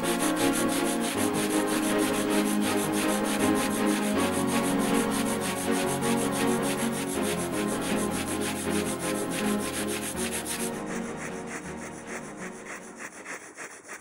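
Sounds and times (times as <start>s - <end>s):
soft background music: 0.0s - 13.5s
bow drill scraping: 0.0s - 14.0s.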